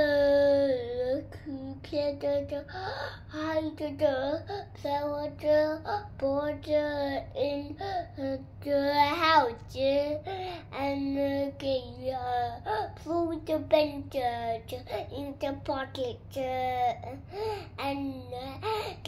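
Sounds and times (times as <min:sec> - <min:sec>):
young child singing: 0:00.0 - 0:19.0.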